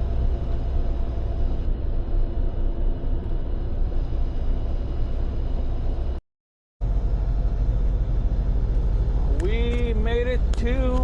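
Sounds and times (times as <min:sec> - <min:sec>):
road noise: 0:00.0 - 0:06.2, 0:06.8 - 0:11.0
truck diesel engine drone: 0:00.0 - 0:06.2, 0:06.8 - 0:11.0.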